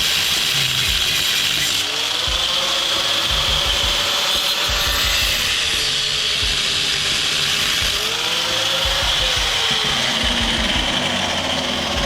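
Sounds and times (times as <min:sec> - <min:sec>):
power tool grinding metal: 0:00.0 - 0:12.0.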